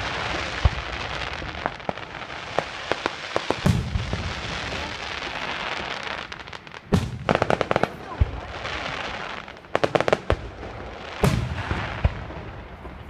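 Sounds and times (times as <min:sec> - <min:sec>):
fireworks booming: 0:00.0 - 0:13.0
fireworks crackling: 0:00.0 - 0:13.0
fireworks popping: 0:00.0 - 0:13.0
steady hiss: 0:00.0 - 0:13.0.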